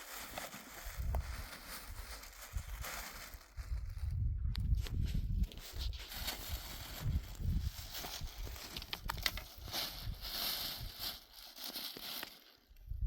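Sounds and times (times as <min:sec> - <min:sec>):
rustling: 0:00.0 - 0:04.0, 0:04.9 - 0:12.6
low rumble of wind on microphone: 0:00.7 - 0:11.2, 0:12.8 - 0:13.0.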